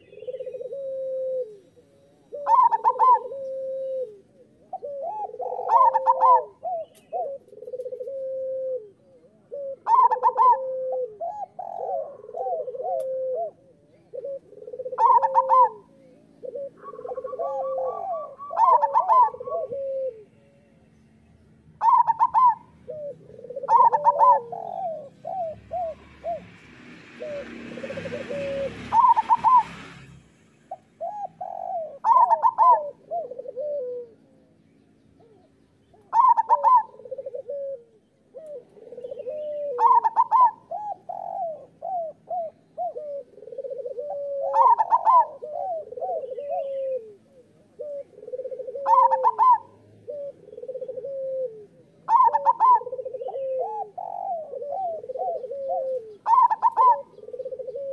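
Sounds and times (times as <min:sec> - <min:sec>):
dove cooing song: 0:00.0 - 0:57.9.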